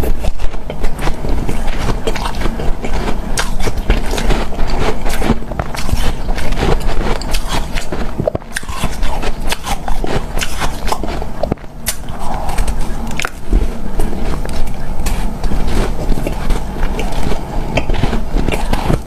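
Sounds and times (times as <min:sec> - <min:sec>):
person chewing crunchy ice: 0:00.0 - 0:19.0.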